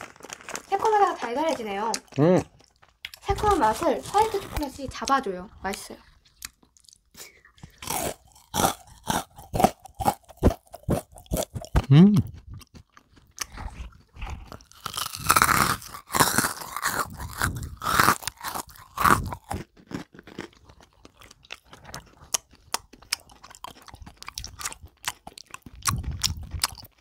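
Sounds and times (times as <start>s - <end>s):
crunching and chewing: 0.0s - 27.0s
wet mouth sounds: 1.9s - 27.0s.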